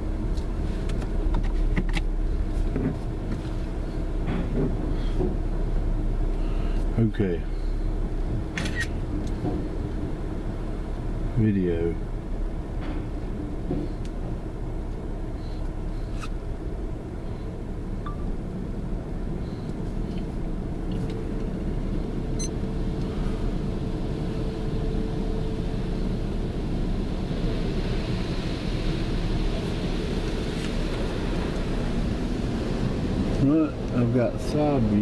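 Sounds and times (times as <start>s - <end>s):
car wash machinery rumbling: 0.0s - 35.0s
faint steady hum: 0.0s - 35.0s.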